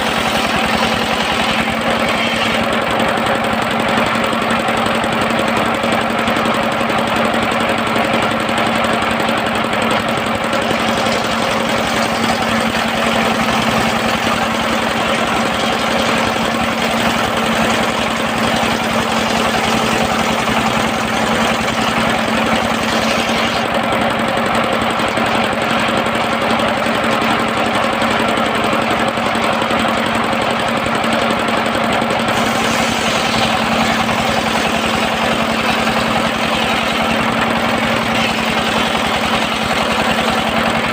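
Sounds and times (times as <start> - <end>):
circular saw engine running: 0.0 - 40.9.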